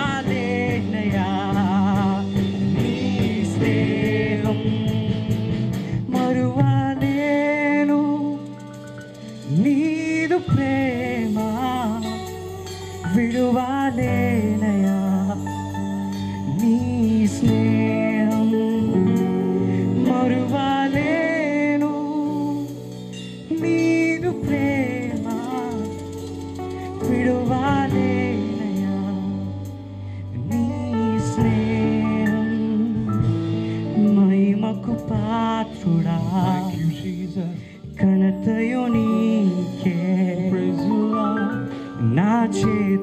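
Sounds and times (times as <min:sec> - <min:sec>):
men singing: 0:00.0 - 0:08.6, 0:09.5 - 0:15.8, 0:16.4 - 0:22.8, 0:23.5 - 0:26.2, 0:27.0 - 0:29.6, 0:30.4 - 0:33.4, 0:34.0 - 0:43.0
drums: 0:00.0 - 0:43.0
electric guitar: 0:00.0 - 0:43.0
keyboard: 0:00.0 - 0:43.0.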